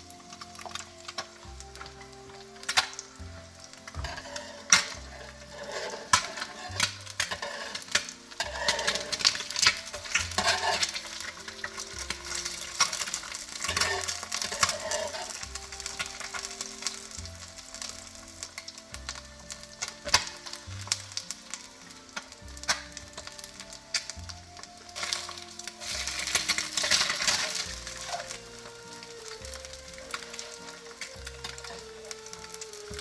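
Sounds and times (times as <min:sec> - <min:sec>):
background music with bass: 0:00.0 - 0:33.0
food sizzling on a griddle: 0:00.0 - 0:33.0.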